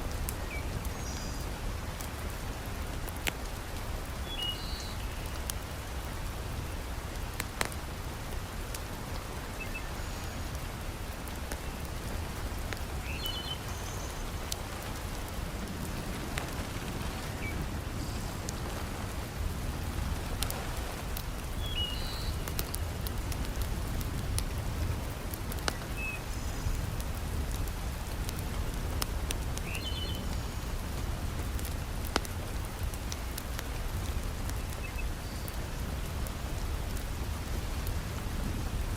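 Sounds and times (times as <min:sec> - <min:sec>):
heavy rain: 0:00.0 - 0:38.9
wood fire crackling: 0:00.0 - 0:38.9.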